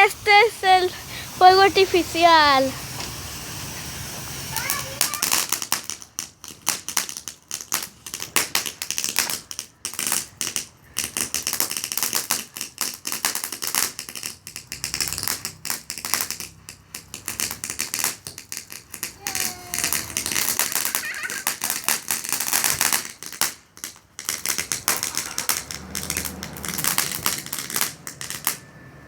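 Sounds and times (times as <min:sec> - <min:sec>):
firework crackling: 0:00.0 - 0:29.0.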